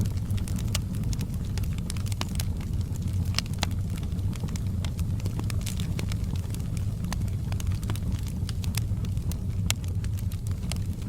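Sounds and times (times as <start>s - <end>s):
fire popping: 0.0s - 11.0s
steady low rumble: 0.0s - 11.0s
wood fire crackling: 0.0s - 11.0s.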